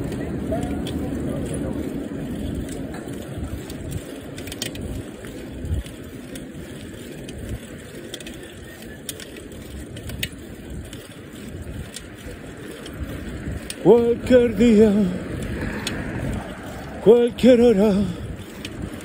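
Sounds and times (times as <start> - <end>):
bicycle tyres rumbling on road: 0.0 - 19.0
bike ticking and rattling: 0.0 - 19.0.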